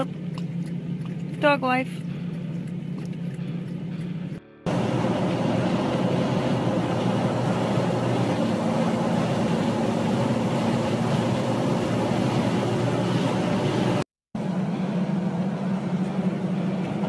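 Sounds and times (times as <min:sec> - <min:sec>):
vehicle driving on road: 0:00.0 - 0:17.0.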